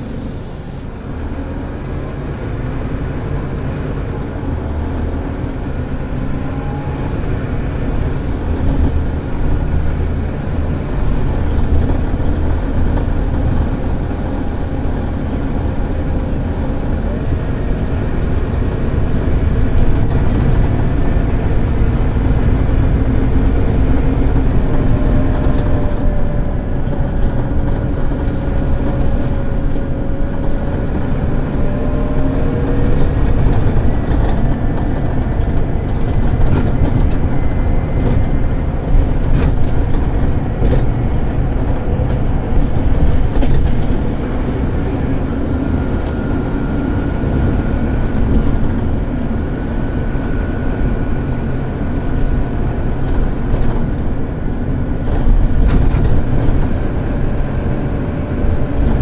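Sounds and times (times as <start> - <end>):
bus diesel engine droning: 0.0 - 59.0.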